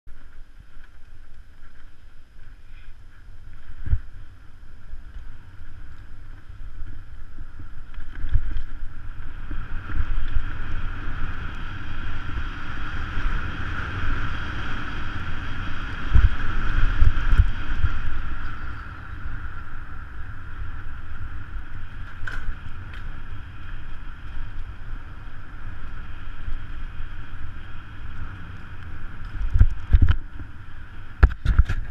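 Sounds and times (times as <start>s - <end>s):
bike rattling over trail: 0.1s - 31.9s
wind buffeting microphone: 0.1s - 31.9s.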